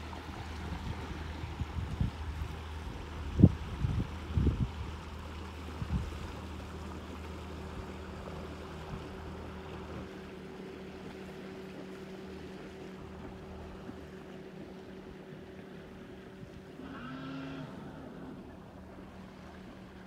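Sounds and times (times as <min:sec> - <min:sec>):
motor boat engine humming: 0:00.0 - 0:20.0.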